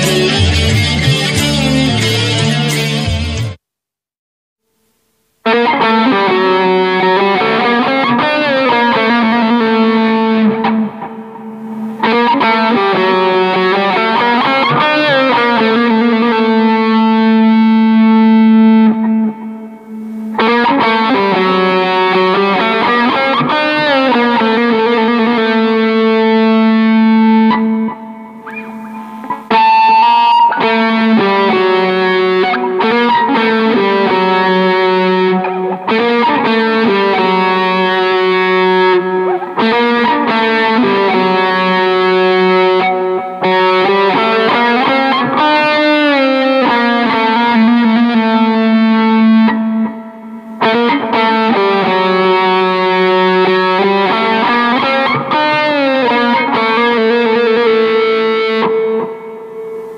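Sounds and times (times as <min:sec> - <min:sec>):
distorted electric guitar melody: 0:00.0 - 0:03.6, 0:04.7 - 0:59.9.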